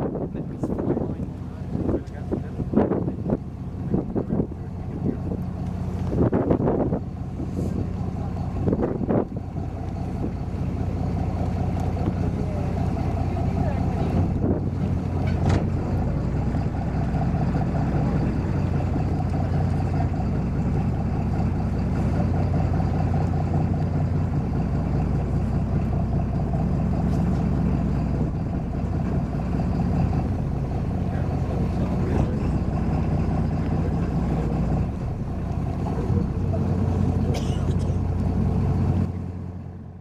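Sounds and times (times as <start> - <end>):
diesel engines humming: 0.0 - 40.0.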